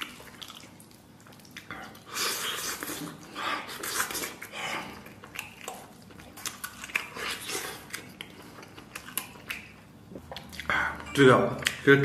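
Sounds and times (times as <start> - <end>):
person chewing: 0.0 - 11.9.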